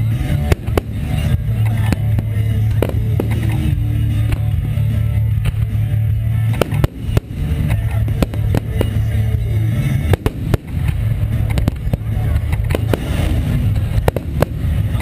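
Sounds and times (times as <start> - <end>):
steady low rumble: 0.0 - 15.0
firework shells bursting: 0.4 - 4.6, 6.5 - 15.0.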